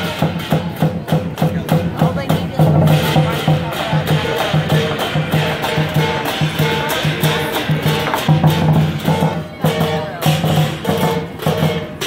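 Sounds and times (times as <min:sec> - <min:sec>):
cymbals crashing: 0:00.0 - 0:12.0
large drum beating: 0:00.0 - 0:12.0.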